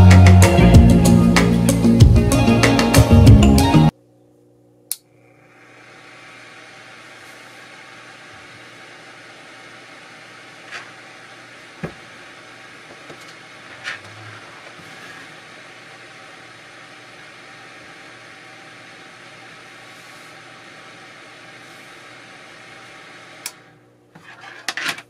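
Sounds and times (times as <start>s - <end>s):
heater fan running: 0.0s - 24.2s.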